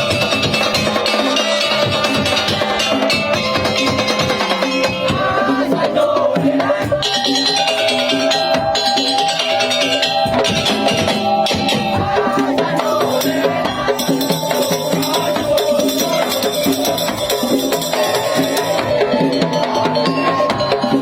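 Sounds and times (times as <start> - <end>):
fast dense drumming: 0.0 - 21.0
percussion rattling: 0.0 - 21.0.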